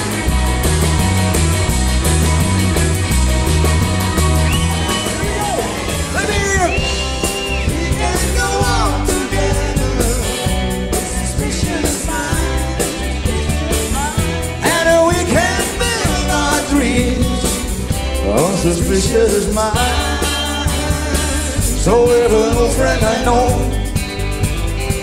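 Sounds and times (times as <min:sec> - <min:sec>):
bass: 0:00.0 - 0:25.0
bending guitar lead line: 0:00.0 - 0:25.0
rock band playing: 0:00.0 - 0:25.0
steady drum beat: 0:00.0 - 0:25.0.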